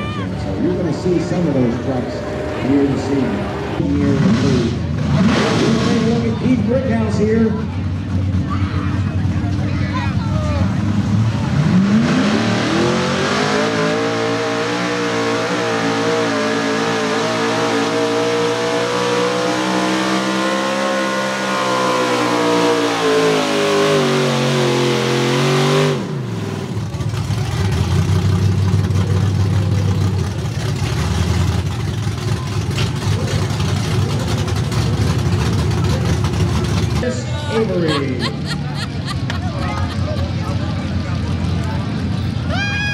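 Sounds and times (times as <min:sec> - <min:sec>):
crowd noise: 0:00.0 - 0:42.9
low rough engine: 0:00.0 - 0:42.9
truck engine at full throttle: 0:00.0 - 0:42.9.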